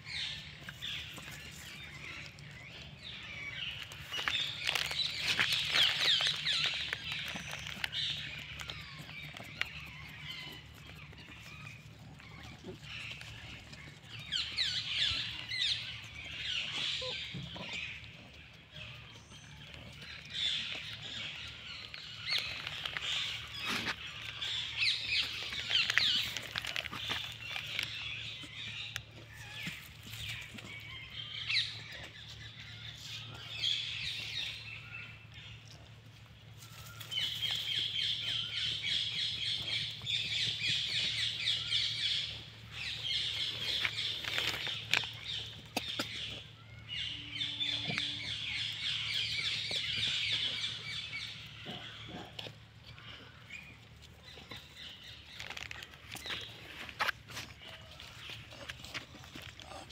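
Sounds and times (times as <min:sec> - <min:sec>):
birds chirping: 0:00.0 - 0:59.9
low steady hum: 0:00.0 - 0:59.9.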